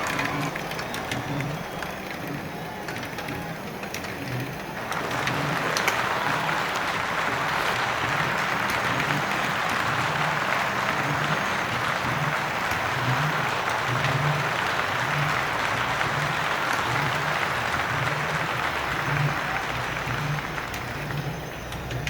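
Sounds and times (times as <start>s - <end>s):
crowd applause and cheering: 0.0s - 22.0s.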